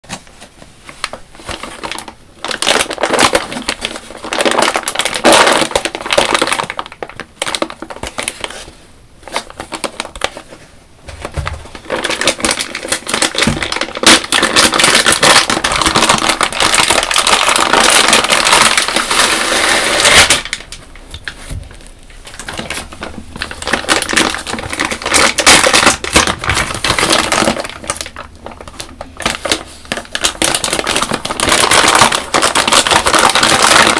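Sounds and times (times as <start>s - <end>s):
plastic packaging crinkling: 0.0s - 33.9s.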